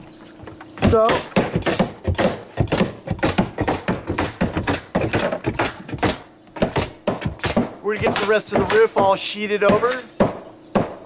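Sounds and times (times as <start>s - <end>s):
hammer tapping nails: 0.8s - 11.0s.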